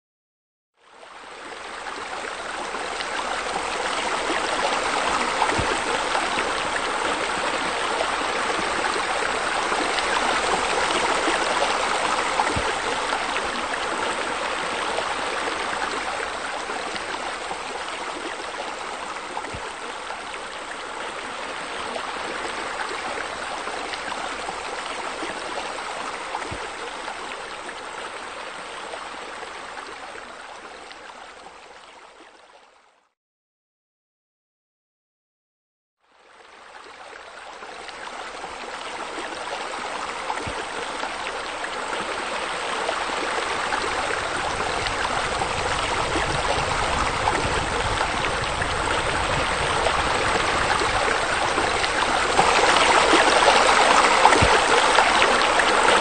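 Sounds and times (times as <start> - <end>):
running water rushing: 1.0 - 31.8, 36.4 - 56.0.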